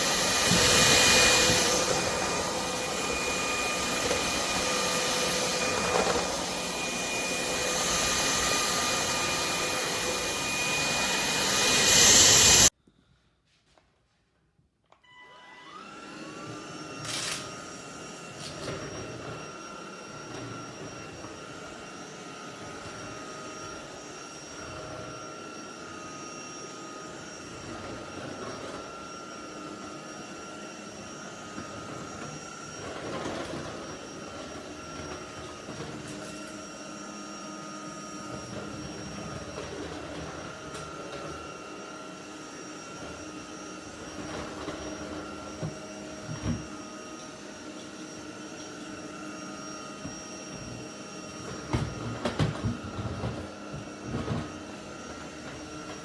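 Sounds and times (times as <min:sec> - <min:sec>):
stick vacuum whining: 0:00.0 - 0:12.7, 0:15.0 - 0:56.0.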